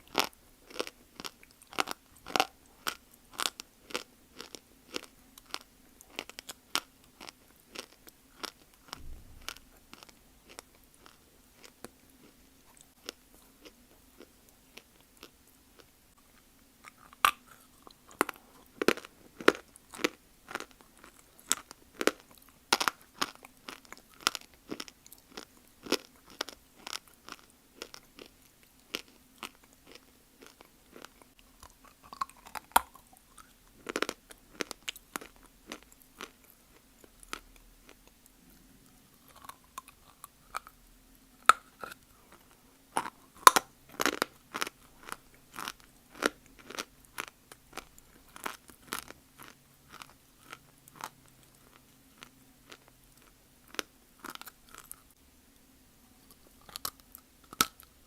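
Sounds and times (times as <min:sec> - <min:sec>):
biting and chewing dry clay: 0:00.0 - 0:40.8, 0:41.4 - 0:55.2, 0:56.2 - 0:57.9.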